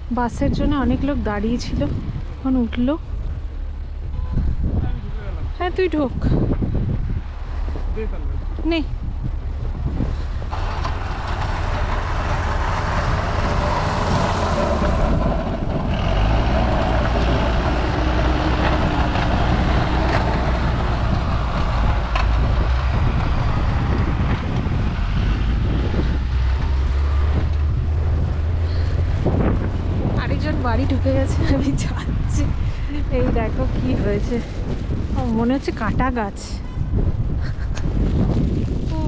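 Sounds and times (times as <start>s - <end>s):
bus engine rumbling: 0.0s - 39.0s.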